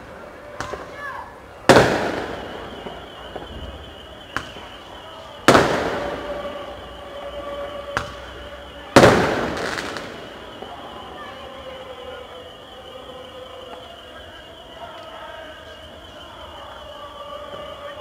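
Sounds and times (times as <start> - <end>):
fireworks bangs with echo: 0.1 - 18.0.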